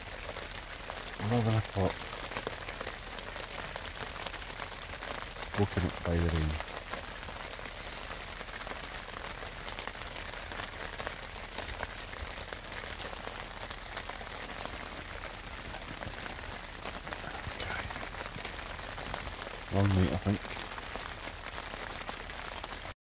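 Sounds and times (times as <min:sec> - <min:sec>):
rain pattering on tent: 0:00.0 - 0:23.0.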